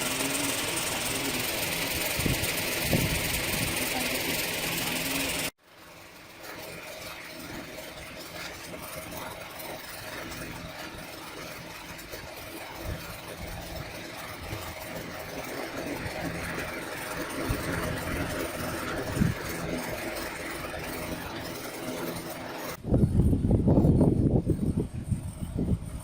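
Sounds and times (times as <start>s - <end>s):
machine running with low hum: 0.0s - 26.0s.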